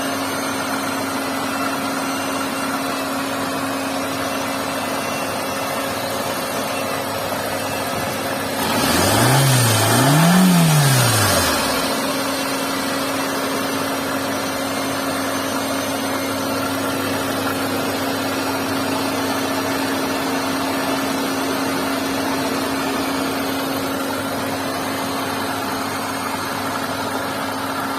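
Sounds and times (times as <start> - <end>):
car engine idling: 0.1 - 27.9.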